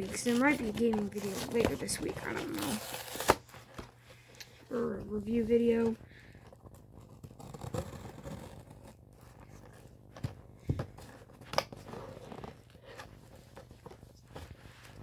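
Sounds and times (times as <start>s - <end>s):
cardboard rustling and tearing: 0.0s - 4.0s, 5.3s - 15.0s.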